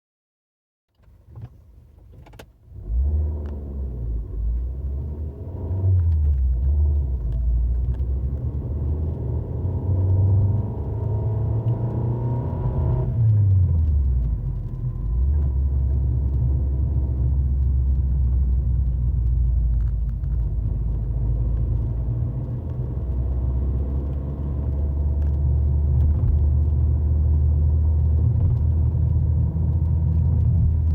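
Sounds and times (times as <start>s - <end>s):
car engine accelerating: 2.7s - 30.9s.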